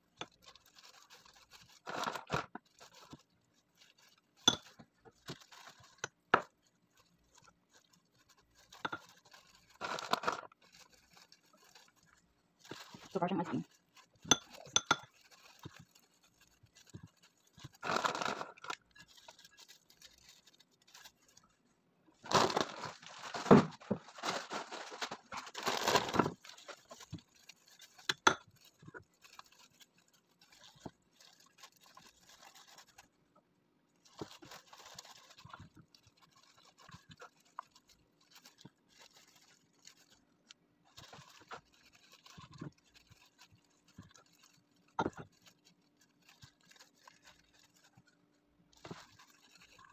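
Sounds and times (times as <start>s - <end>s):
plastic gloves crinkling: 0.0s - 49.9s.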